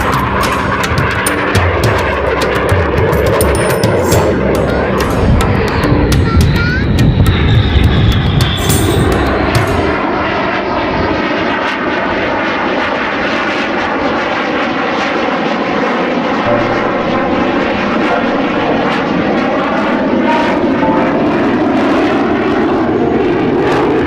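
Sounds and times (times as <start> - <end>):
airplane flying past: 0.0 - 24.0.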